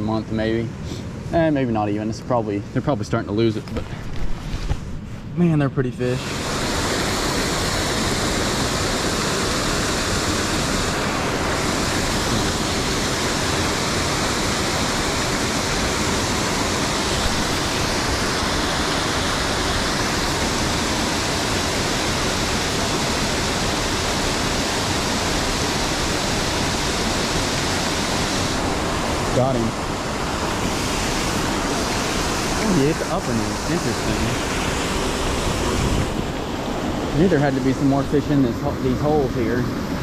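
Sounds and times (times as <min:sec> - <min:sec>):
waterfalls rushing: 0:06.0 - 0:40.0.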